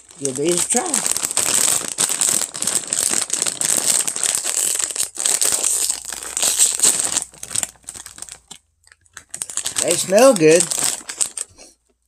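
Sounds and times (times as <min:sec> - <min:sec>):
chip bag crinkling: 0:00.0 - 0:11.9.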